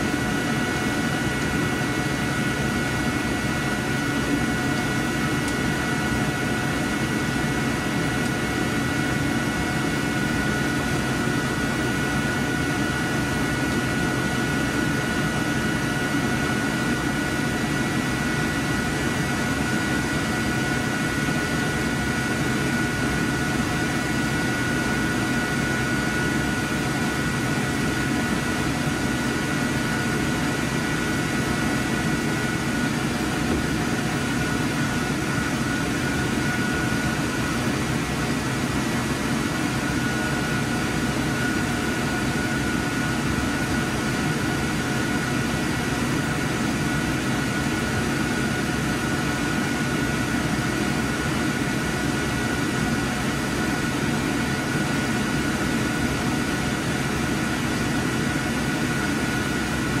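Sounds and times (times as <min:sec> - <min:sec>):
ventilation fans whirring: 0:00.0 - 1:00.0.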